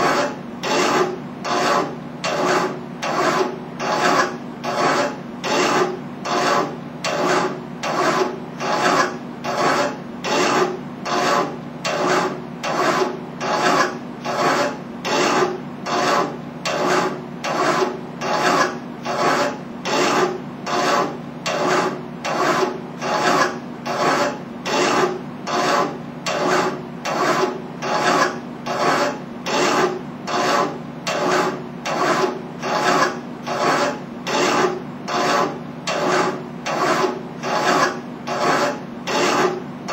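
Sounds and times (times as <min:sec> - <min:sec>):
hand file rasping on metal tube: 0:00.0 - 0:39.9.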